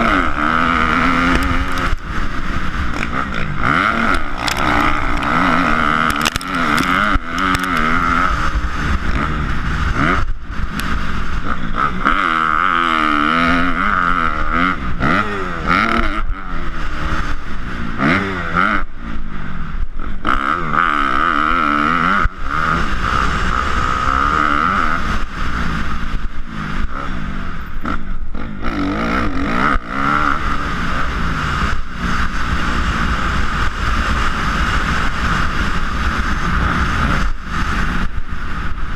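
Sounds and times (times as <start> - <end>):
dirt bike engine revving: 0.0 - 19.1, 20.1 - 38.9.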